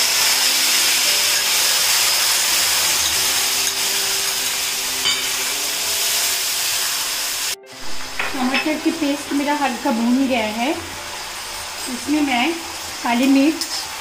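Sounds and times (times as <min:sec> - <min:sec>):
tomato puree sizzling in oil: 0:00.0 - 0:14.0.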